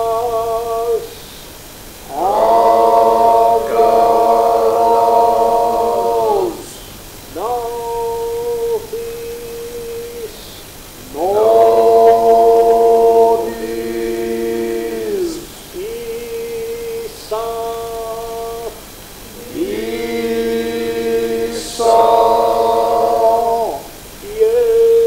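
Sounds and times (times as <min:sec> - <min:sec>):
choral chanting: 0:02.0 - 0:10.3, 0:11.0 - 0:25.0.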